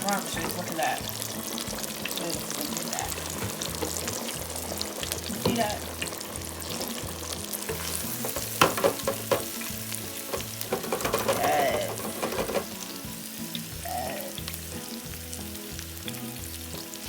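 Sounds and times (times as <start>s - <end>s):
frying sizzle with crackling pops: 0.0s - 17.0s.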